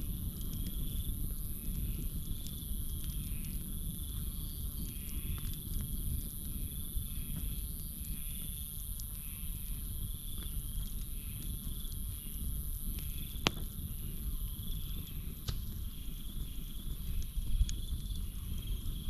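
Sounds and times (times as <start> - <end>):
campfire crackling and popping: 0.0 - 19.0
night insects trilling: 0.0 - 19.0.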